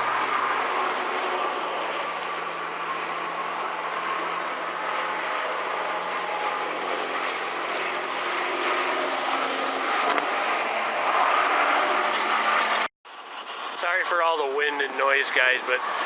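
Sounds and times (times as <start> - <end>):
vehicle road drone: 0.0 - 16.0.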